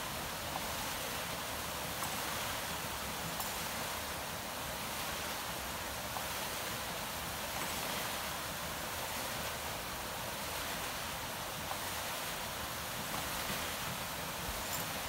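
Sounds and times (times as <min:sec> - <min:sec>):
watermill wheel splashing water: 0:00.0 - 0:15.0.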